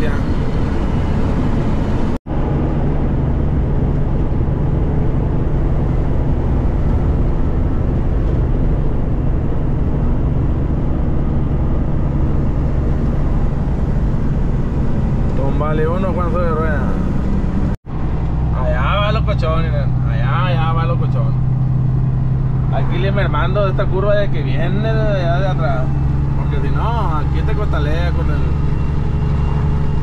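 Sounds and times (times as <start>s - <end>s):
truck engine and road drone: 0.0s - 30.0s.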